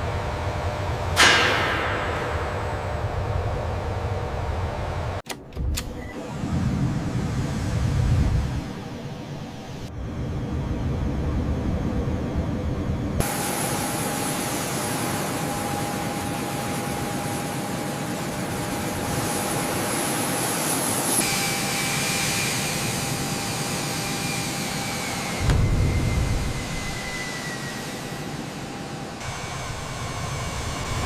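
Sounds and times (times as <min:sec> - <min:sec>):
high jet engine whine: 0:00.0 - 0:31.0
jet engine rushing: 0:05.8 - 0:31.0
jet engine rumble: 0:05.9 - 0:31.0.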